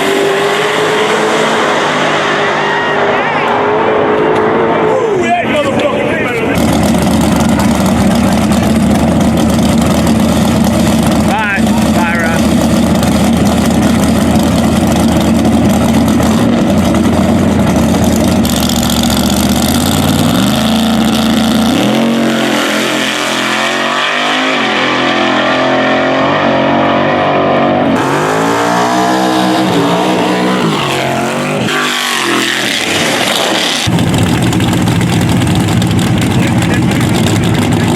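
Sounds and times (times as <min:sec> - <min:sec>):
race car engine idling and revving: 0:00.0 - 0:37.9.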